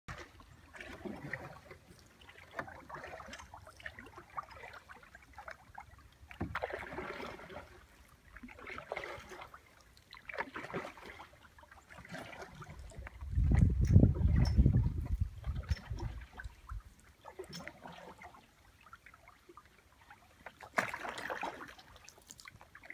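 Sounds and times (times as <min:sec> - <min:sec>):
paddle pulling through water: 0:00.1 - 0:22.9
water splashing and dripping: 0:00.1 - 0:22.9.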